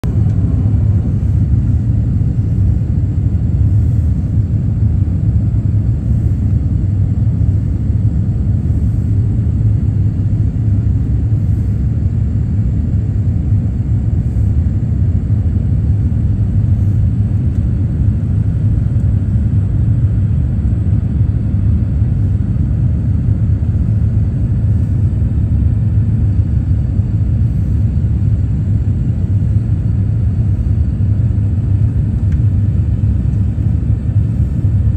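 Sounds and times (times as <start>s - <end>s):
jet engines and airflow rumbling: 0.0s - 34.9s.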